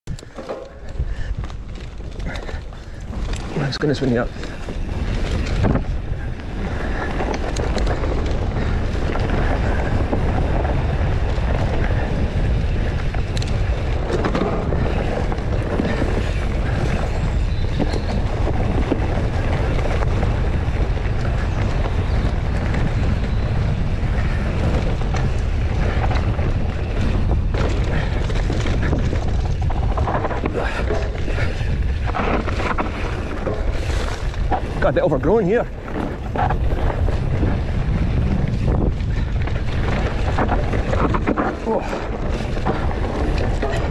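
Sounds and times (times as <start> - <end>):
bike clicks and knocks: 0.1 - 43.9
bike tyre noise: 0.1 - 43.9
wind on microphone: 0.1 - 43.9.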